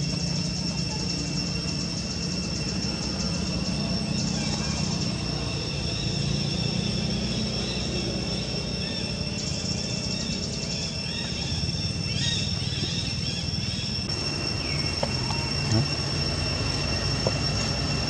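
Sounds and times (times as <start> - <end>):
steady high-pitched tones: 0.0 - 18.0.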